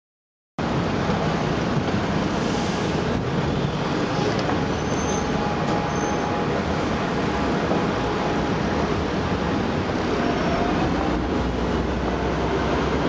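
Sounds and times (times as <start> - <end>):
low rumble of traffic: 0.6 - 13.0.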